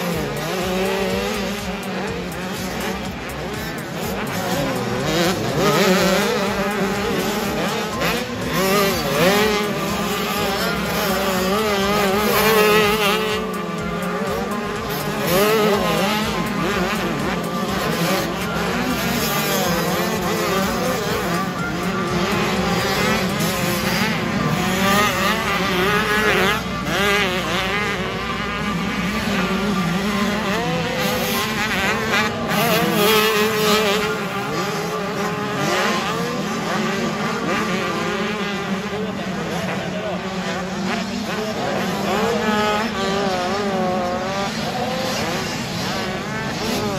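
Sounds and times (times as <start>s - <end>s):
motocross bike engines revving: 0.0s - 46.9s.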